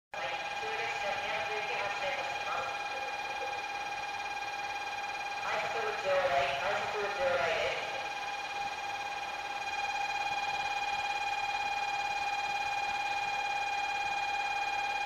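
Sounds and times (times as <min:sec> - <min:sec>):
platform departure buzzer: 0:00.2 - 0:15.0.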